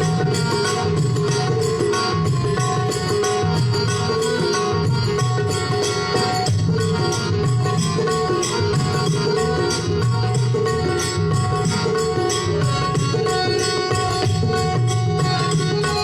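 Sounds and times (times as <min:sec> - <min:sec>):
hand cymbals striking: 0:00.0 - 0:16.0
harmonium reed notes: 0:00.0 - 0:16.0
tabla and drum pad beats: 0:00.0 - 0:16.0.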